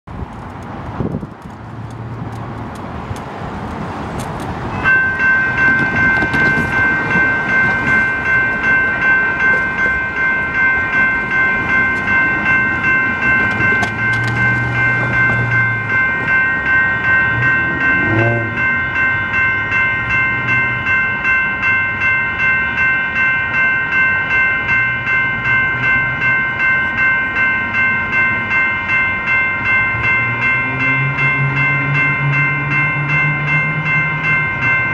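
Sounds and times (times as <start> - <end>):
street traffic: 0.0 - 34.9
railroad crossing bells dinging: 0.1 - 34.9.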